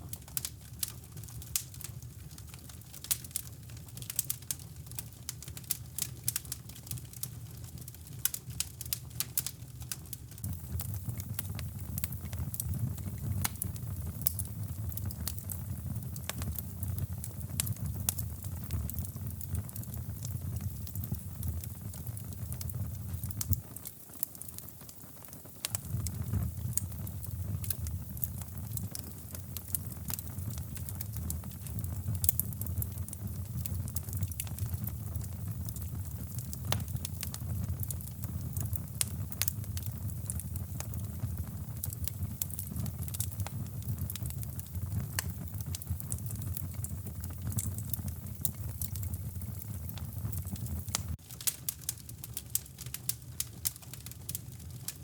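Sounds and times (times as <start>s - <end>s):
fire pops and snaps: 0.0s - 55.0s
wood fire crackling: 0.0s - 55.0s.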